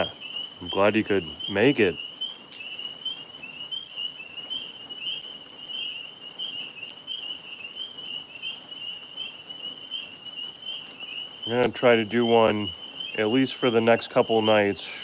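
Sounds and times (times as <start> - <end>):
tree frogs trilling: 0.0 - 15.0.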